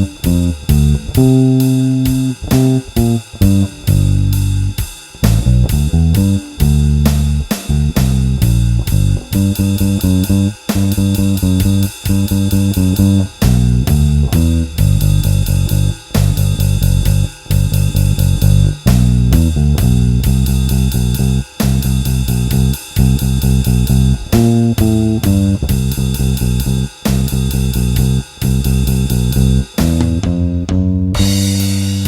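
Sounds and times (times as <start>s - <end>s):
drum beat with cymbal ticks: 0.0s - 32.0s
electric bass line: 0.0s - 32.0s.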